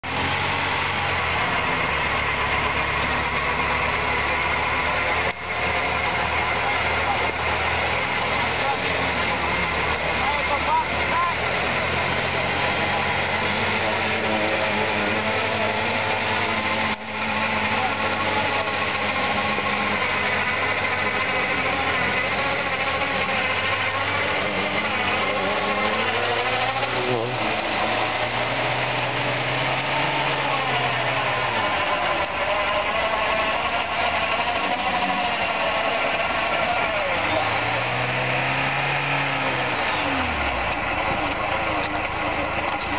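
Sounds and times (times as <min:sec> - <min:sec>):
car engine running at low revs: 0:00.0 - 0:42.9.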